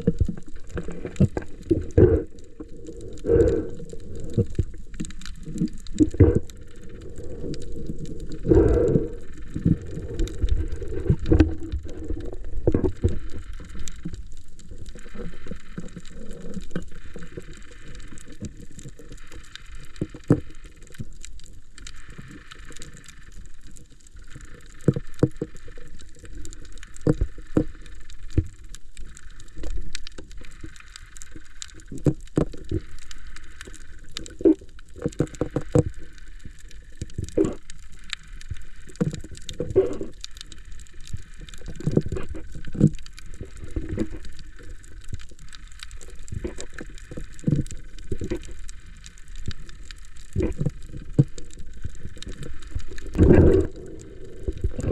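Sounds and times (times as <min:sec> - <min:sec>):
muffled underwater rumble: 0:00.0 - 0:54.9.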